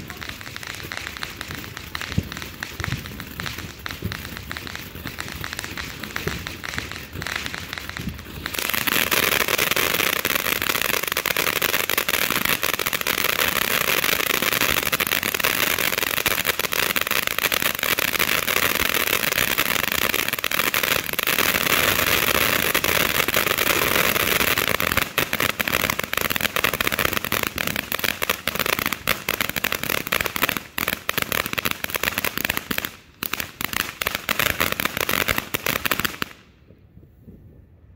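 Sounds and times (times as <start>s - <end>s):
firework fountain hissing and crackling: 0.0s - 36.6s.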